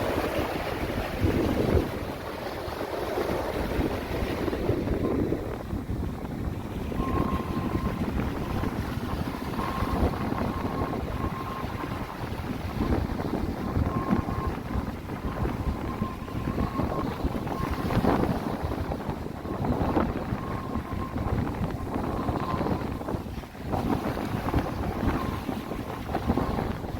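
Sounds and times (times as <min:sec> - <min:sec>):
sea waves: 0:00.0 - 0:26.9
wind buffeting microphone: 0:00.0 - 0:26.9.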